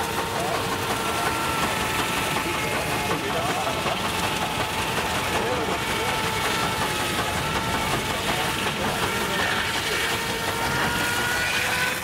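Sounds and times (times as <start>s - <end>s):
saw whining through log: 0.0s - 12.0s.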